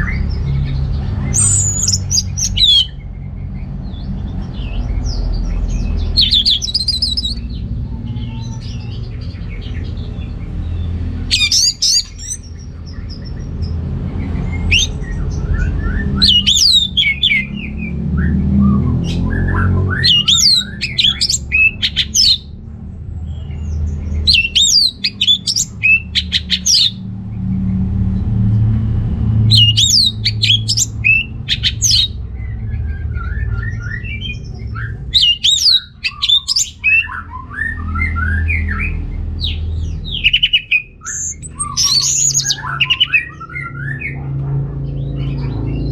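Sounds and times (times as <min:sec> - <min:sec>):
thrush singing: 0:00.0 - 0:03.0, 0:04.0 - 0:22.6, 0:24.2 - 0:27.0, 0:29.0 - 0:44.2
steady low rumble: 0:00.0 - 0:45.9.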